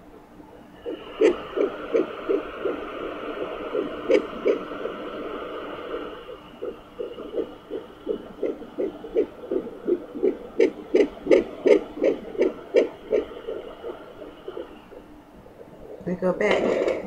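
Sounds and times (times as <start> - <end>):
fetal heartbeat whooshing pulses: 0.0 - 17.0
static hiss: 0.0 - 17.0.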